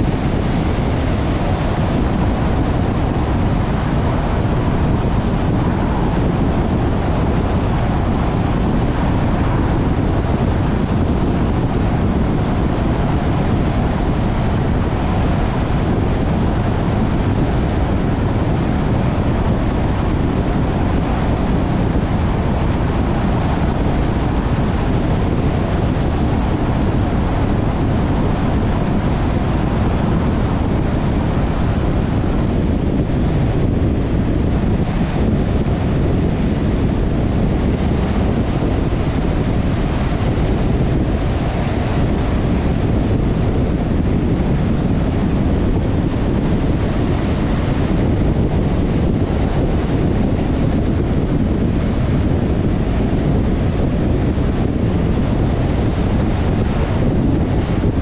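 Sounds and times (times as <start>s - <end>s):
car tyre rumble: 0.0s - 58.0s
wind noise on microphone: 0.0s - 58.0s.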